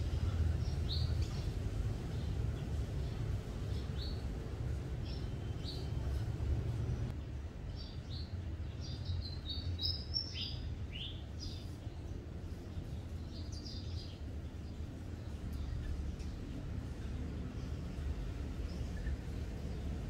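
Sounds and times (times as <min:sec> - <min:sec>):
low steady rumble: 0:00.0 - 0:08.8, 0:11.5 - 0:20.0
small birds chirping: 0:00.0 - 0:20.0.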